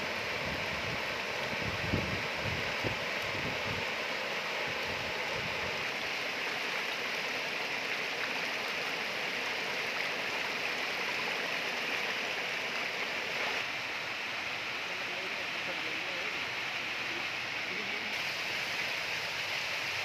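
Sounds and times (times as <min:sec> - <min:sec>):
rain runoff rushing down pavement: 0:00.0 - 0:20.0.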